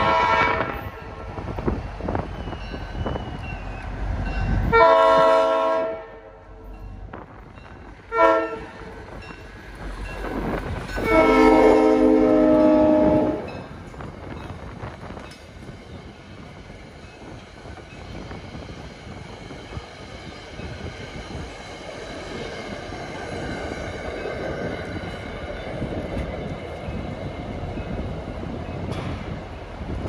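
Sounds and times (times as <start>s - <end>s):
diesel train approaching: 0.0s - 30.0s.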